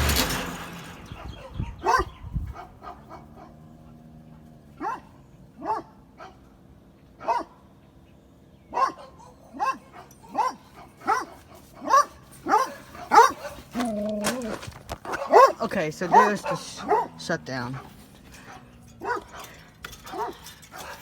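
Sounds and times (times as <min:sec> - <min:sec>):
dog barking: 0:01.2 - 0:04.0, 0:04.8 - 0:06.5, 0:07.2 - 0:07.6, 0:08.7 - 0:21.0.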